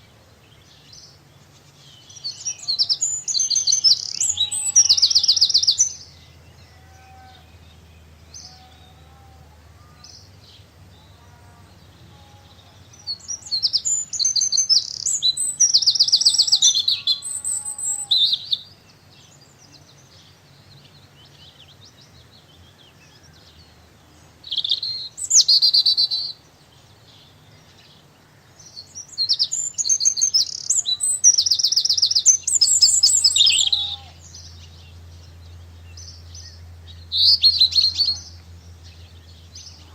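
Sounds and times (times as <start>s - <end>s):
quiet bird calls: 0.0s - 39.9s
songbird trilling: 0.0s - 39.9s.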